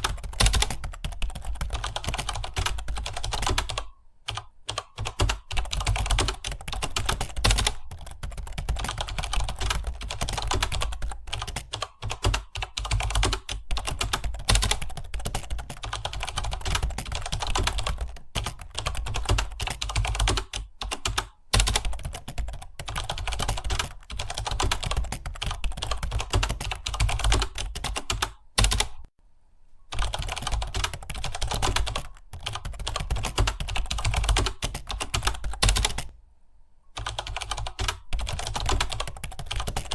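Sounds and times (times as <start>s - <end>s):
fast typing on computer keyboard: 0.0s - 29.1s, 29.9s - 36.1s, 37.0s - 39.9s.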